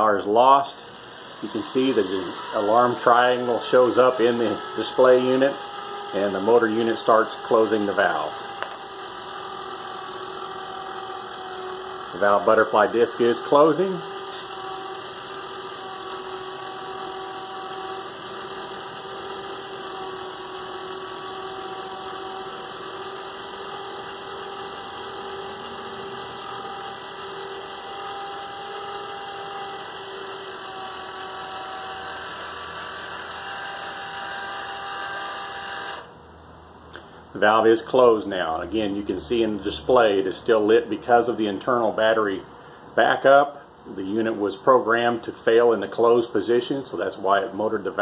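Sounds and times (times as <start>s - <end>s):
electric motor whining hum: 0.0s - 48.0s.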